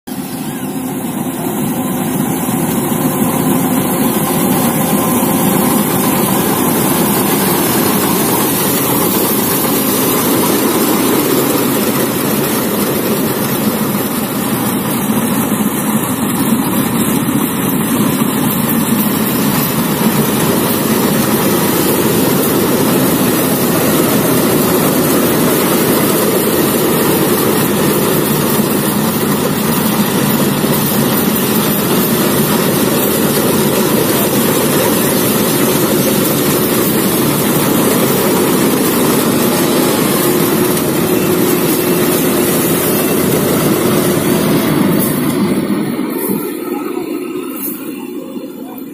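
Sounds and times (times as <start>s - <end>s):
combine harvester droning: 0.0s - 48.9s.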